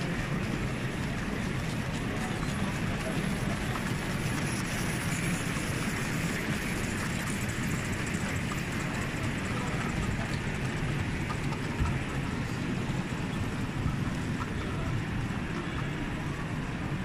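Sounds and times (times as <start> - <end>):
faint indistinct voices: 0.0 - 17.0.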